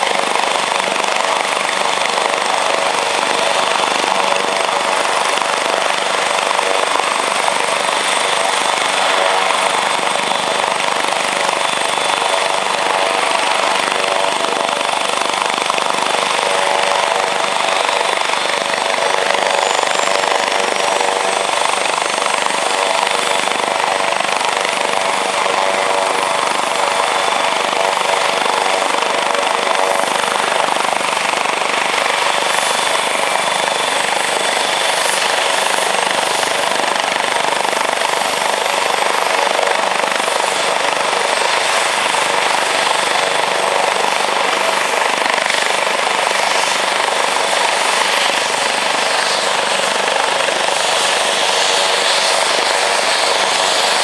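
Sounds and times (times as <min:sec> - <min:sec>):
helicopter rotor noise: 0:00.0 - 0:54.0
high turbine whine: 0:00.0 - 0:54.0.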